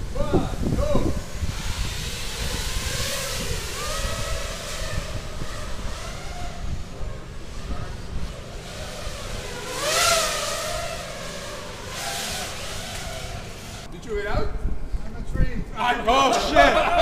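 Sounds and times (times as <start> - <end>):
drone motors whining: 0.0 - 13.9.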